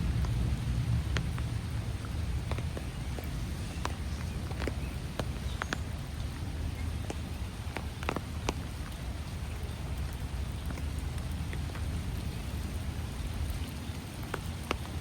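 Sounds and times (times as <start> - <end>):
steady low rumble: 0.0 - 14.1
raindrops ticking: 0.0 - 15.0.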